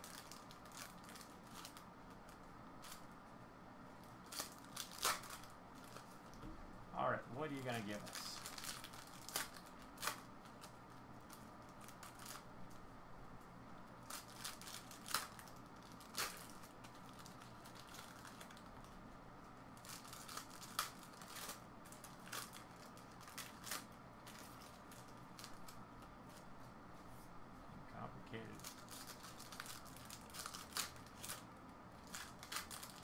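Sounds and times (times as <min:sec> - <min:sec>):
wrappers crinkling and tearing: 0:00.0 - 0:03.1, 0:04.2 - 0:06.4, 0:07.4 - 0:12.5, 0:14.0 - 0:19.0, 0:19.8 - 0:26.4, 0:28.4 - 0:33.0.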